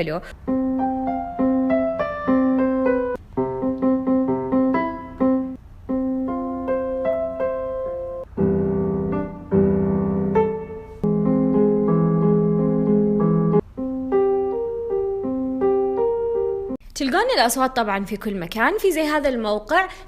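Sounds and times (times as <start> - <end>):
solo piano melody: 0.4 - 16.8.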